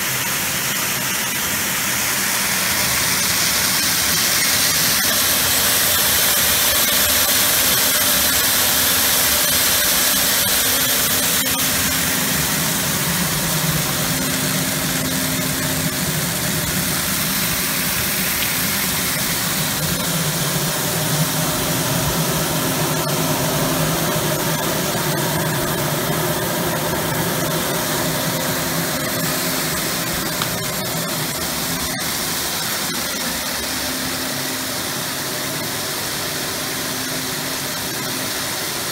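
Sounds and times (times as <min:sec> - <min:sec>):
machine hum: 0:00.0 - 0:38.9
steady hiss: 0:00.0 - 0:38.9.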